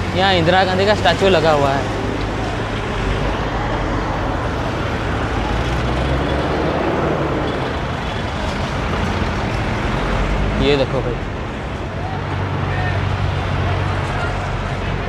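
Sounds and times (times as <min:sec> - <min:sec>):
buses passing: 0:00.0 - 0:15.0
cars passing: 0:00.0 - 0:15.0
road noise: 0:00.0 - 0:15.0.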